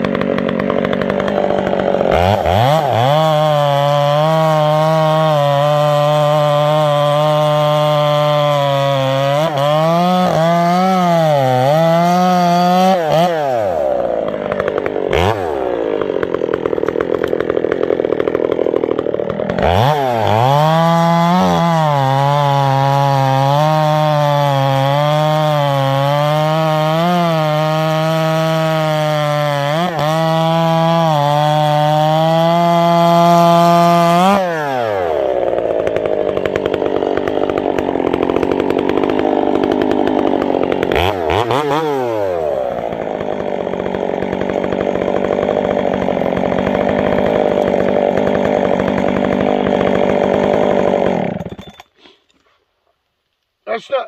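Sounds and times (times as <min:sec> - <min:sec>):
chainsaw cutting and idling: 0:00.0 - 0:52.7.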